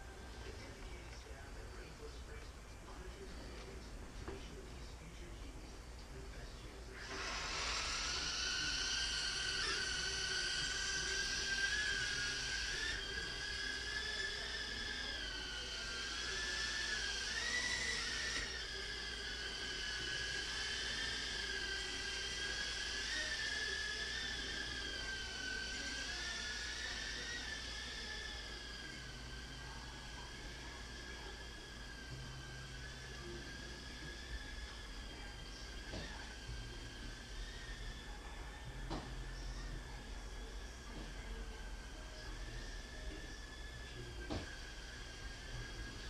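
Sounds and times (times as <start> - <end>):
quadcopter motors whining: 0.0 - 5.6, 6.2 - 46.0.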